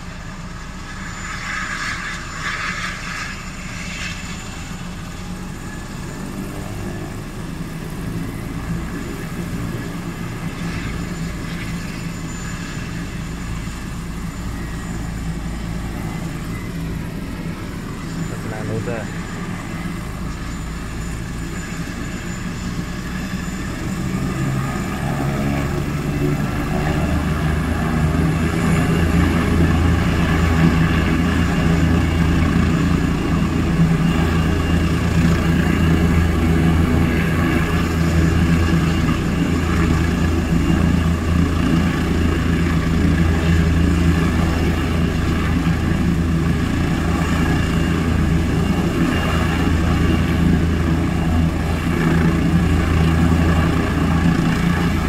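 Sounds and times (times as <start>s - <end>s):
helicopter rotor hum: 0.0s - 55.0s.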